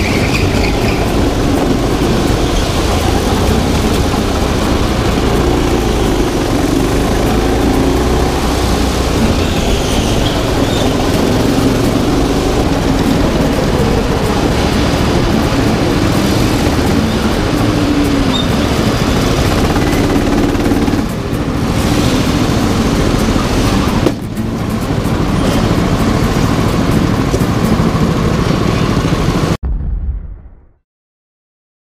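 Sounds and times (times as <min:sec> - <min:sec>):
go-kart engine drone: 0:00.0 - 0:29.6.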